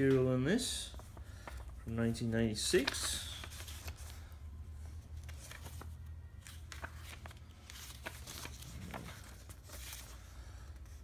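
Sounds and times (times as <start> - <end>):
low steady hum: 0.0 - 11.0
paper pages turning: 0.9 - 1.9, 2.5 - 11.0.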